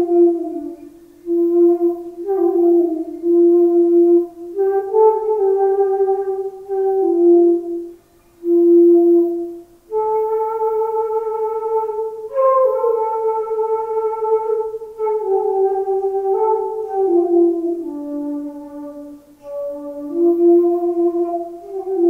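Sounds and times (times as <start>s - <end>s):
flute playing slow melody: 0.0s - 22.0s.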